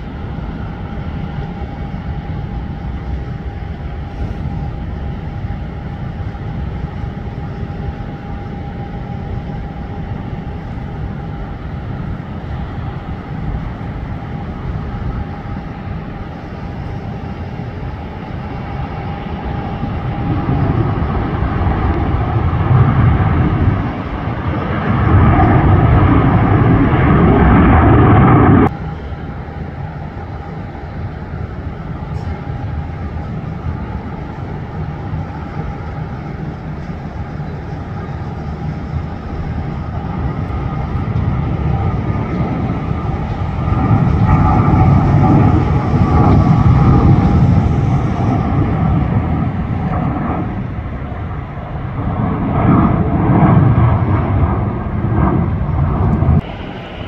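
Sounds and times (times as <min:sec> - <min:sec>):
jet engines roaring at takeoff: 0:00.0 - 0:57.0.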